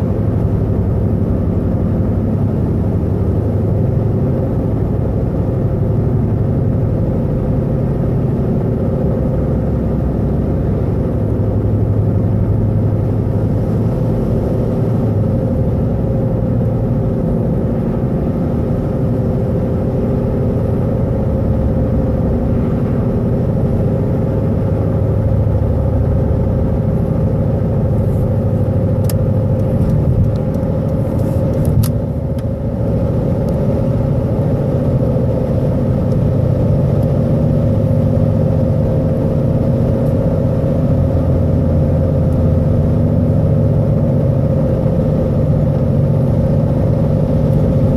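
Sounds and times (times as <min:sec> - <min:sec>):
car engine droning: 0:00.0 - 0:47.9.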